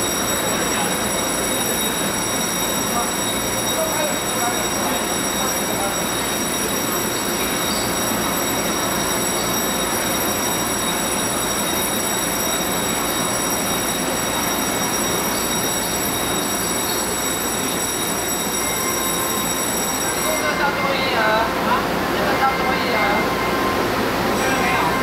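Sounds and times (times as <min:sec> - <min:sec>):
high-pitched steady whines: 0:00.0 - 0:25.0
train equipment hum and rush: 0:00.0 - 0:25.0.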